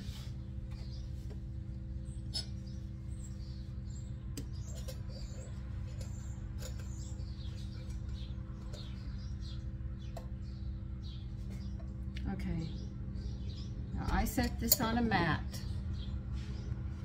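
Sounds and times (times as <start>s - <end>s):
birds chirping: 0.0s - 17.0s
steady low hum: 0.0s - 17.0s.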